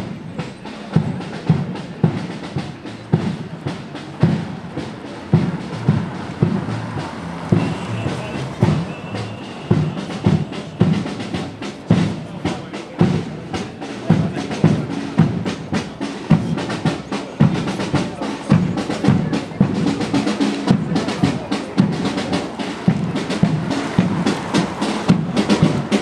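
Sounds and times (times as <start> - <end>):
bass drum strokes: 0.0 - 26.0
snare drum rolls: 0.0 - 26.0.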